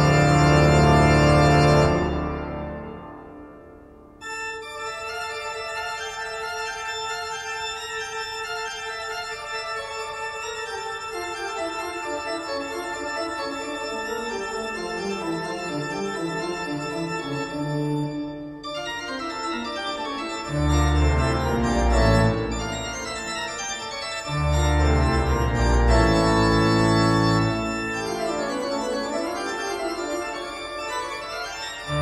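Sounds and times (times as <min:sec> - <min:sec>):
organ chords: 0:00.0 - 0:32.0.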